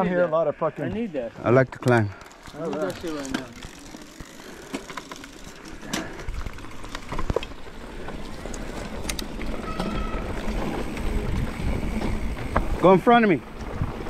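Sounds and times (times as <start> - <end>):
bike clicks and rattles: 1.4 - 14.0
tyres rushing on dirt: 1.4 - 14.0.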